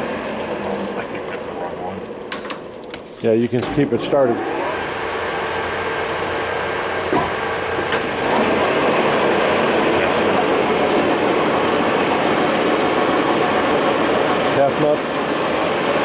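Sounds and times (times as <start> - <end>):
lathe running: 0.0 - 2.4, 3.8 - 16.0.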